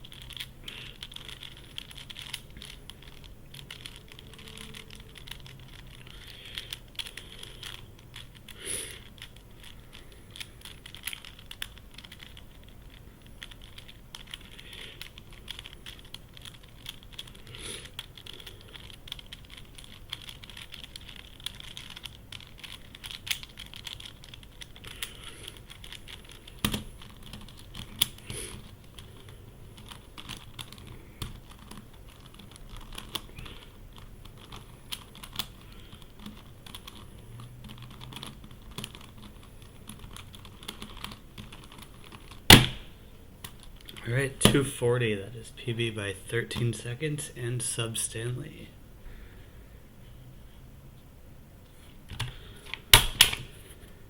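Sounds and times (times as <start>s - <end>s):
plastic puzzle clicking and rattling: 0.0s - 44.7s.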